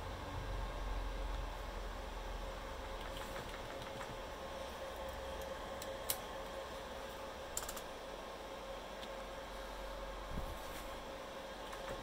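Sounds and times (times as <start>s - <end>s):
computer fan hum: 0.0s - 12.0s.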